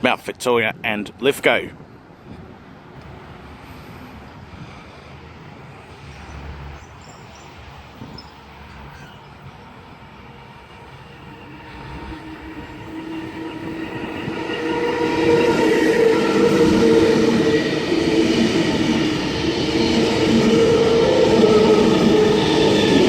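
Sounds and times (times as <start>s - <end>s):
train wheels rumbling on rails: 1.6s - 23.0s
train whining tones: 3.0s - 23.0s.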